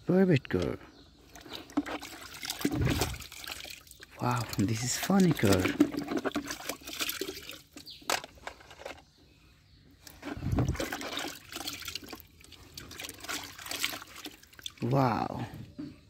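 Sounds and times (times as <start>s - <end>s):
water sloshing in a plastic tub: 0.6s - 9.0s, 10.0s - 16.0s.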